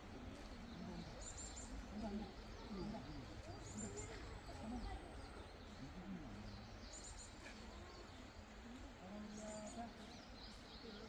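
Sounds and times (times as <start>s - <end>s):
murmur of voices: 0.0s - 11.0s
small birds chirping: 0.0s - 11.0s.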